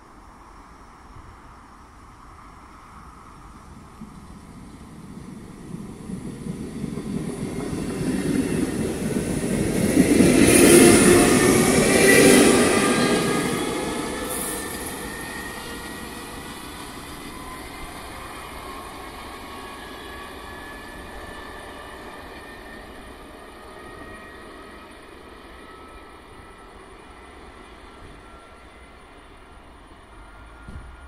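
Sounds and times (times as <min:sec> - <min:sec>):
train wheel rumble: 0:02.2 - 0:31.0.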